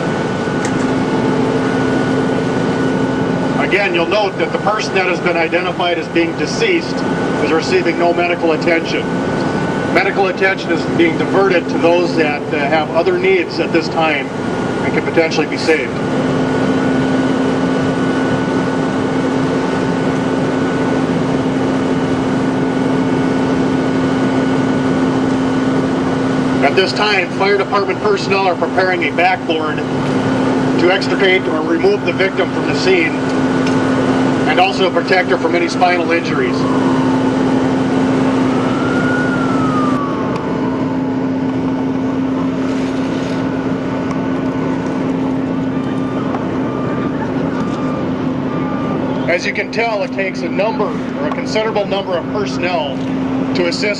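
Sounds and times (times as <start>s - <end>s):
emergency siren wailing: 0.0s - 53.9s
outdoor noise: 0.0s - 53.9s
steady low hum: 0.0s - 53.9s
vehicle engines idling: 0.0s - 53.9s.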